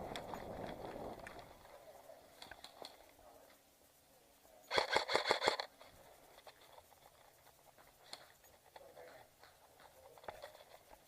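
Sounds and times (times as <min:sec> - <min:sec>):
faint ticks and clicks: 0:00.0 - 0:11.0.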